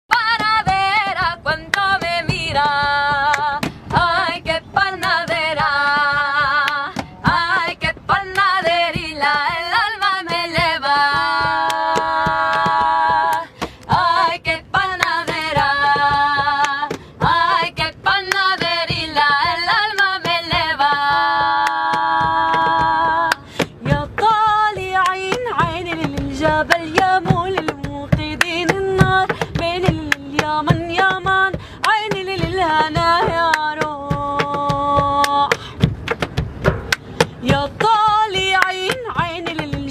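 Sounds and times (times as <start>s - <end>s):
hand beats: 0.1s - 39.9s
young women singing folk song: 0.1s - 39.9s.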